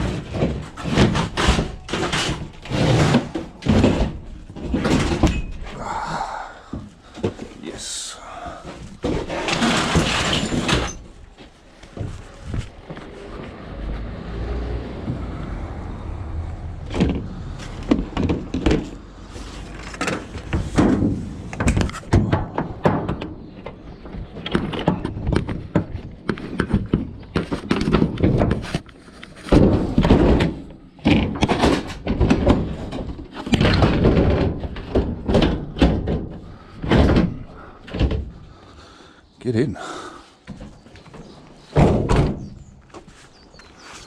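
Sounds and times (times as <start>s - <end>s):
scrap thudding and clattering: 0.0s - 5.8s, 8.5s - 13.6s, 16.0s - 38.6s, 40.4s - 44.0s.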